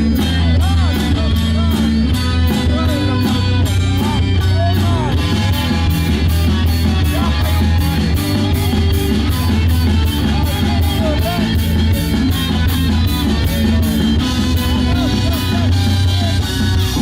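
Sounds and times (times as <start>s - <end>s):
driving cymbal beat: 0.0s - 17.0s
rock band playing live: 0.0s - 17.0s.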